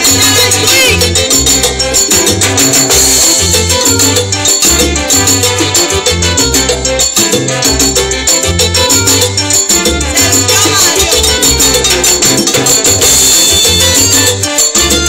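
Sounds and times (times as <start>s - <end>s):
bass line: 0.0s - 15.0s
live salsa band: 0.0s - 15.0s
trombone: 0.0s - 15.0s.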